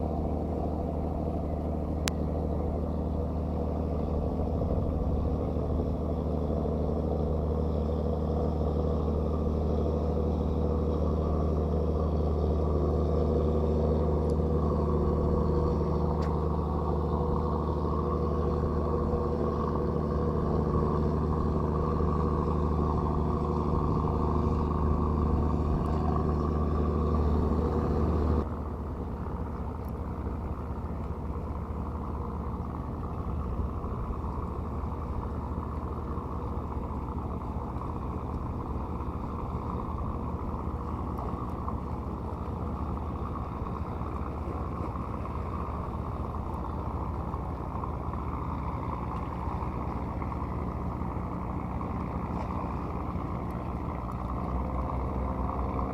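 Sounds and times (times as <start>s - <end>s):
engine running: 0.0s - 55.9s.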